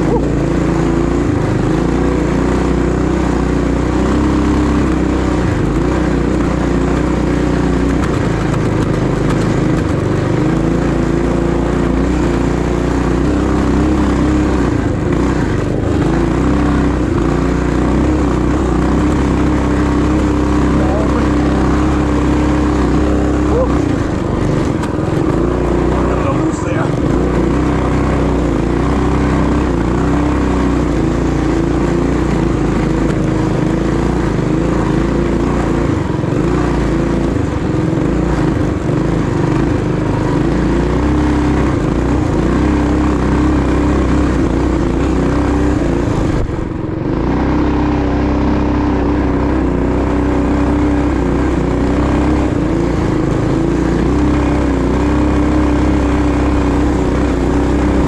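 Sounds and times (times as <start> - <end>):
mini bike engine running: 0.0 - 58.0.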